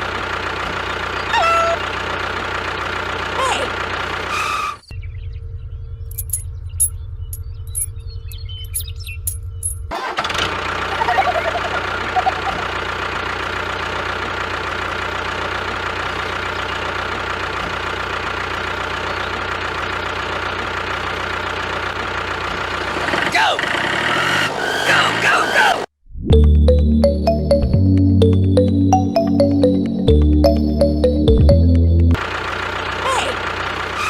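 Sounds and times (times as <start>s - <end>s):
engine chugging: 0.0s - 25.6s, 28.2s - 34.0s.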